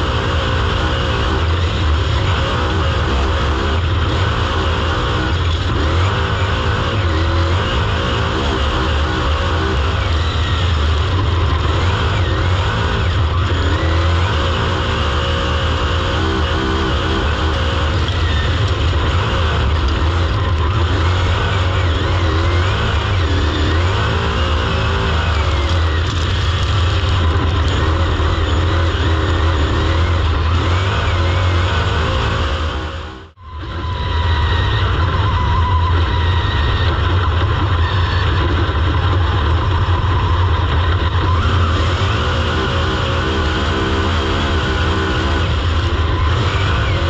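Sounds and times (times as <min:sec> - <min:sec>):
racing car engine: 0:00.0 - 0:47.0.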